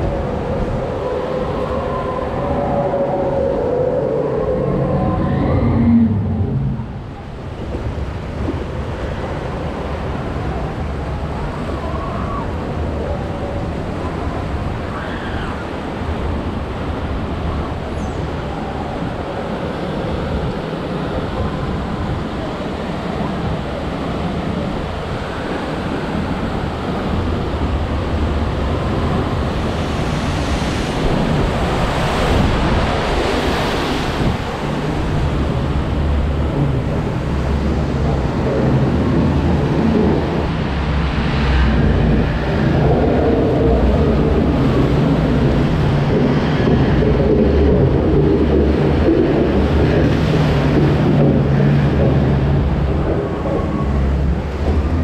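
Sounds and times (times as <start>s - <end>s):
rushing churning river water: 0.0s - 55.0s
wind buffeting microphone: 0.0s - 55.0s.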